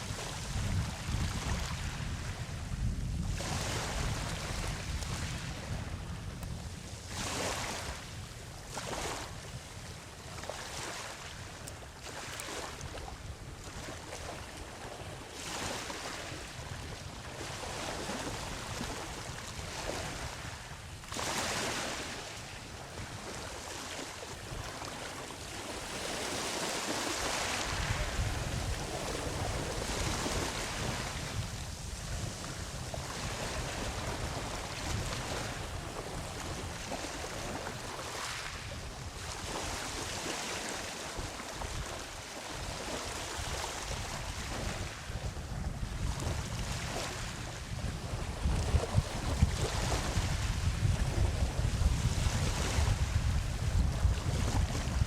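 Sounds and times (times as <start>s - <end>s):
ocean waves breaking on beach: 0.0s - 55.0s
wind rumble on microphone: 0.0s - 55.0s.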